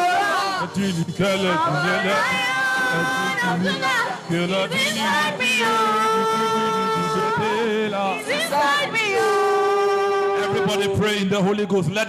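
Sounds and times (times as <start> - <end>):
man singing: 0.0 - 11.3
backing music: 0.0 - 12.0.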